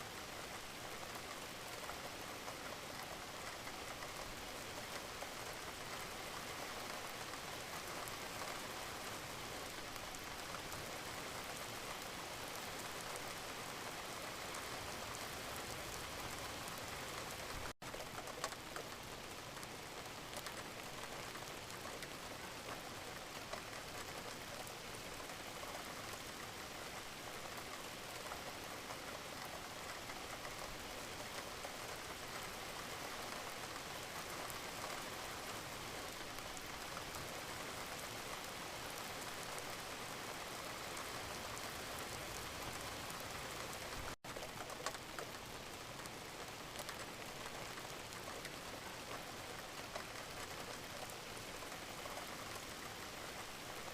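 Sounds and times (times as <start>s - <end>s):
gentle rain patter: 0.0s - 53.9s.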